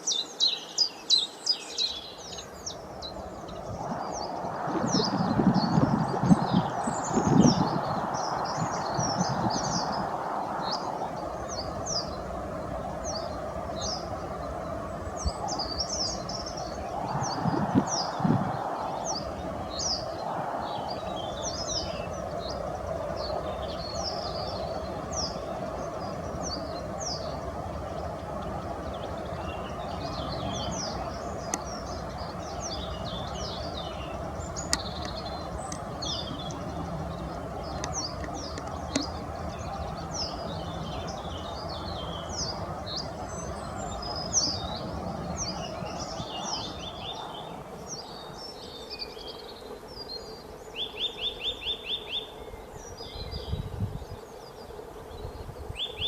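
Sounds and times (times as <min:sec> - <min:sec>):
songbirds chirping: 0:00.0 - 0:56.0
steady rushing background noise: 0:02.4 - 0:50.8.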